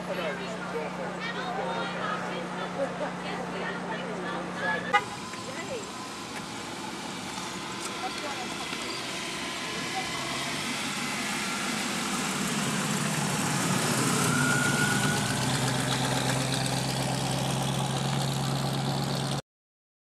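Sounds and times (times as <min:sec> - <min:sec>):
car engine driving past: 0:00.0 - 0:19.4.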